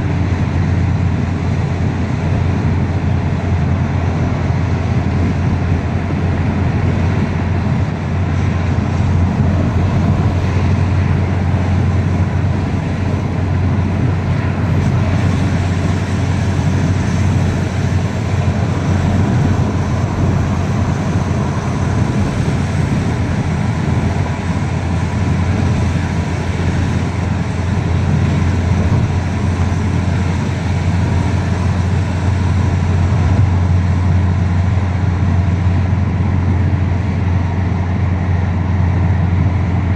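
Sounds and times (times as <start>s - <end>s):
road and engine drone in car: 0.0s - 39.9s.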